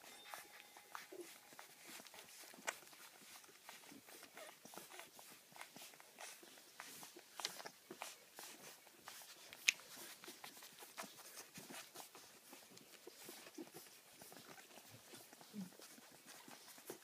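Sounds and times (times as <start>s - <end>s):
puppies suckling: 0.0s - 17.0s.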